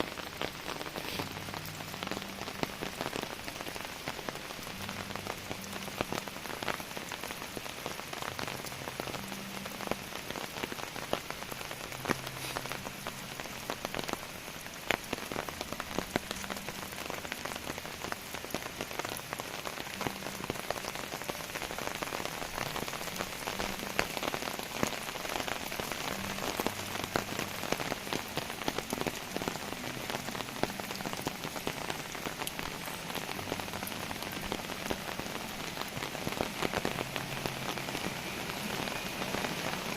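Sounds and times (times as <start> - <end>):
heavy rain falling: 0.0 - 39.9
sharp raindrop impacts: 0.0 - 39.9.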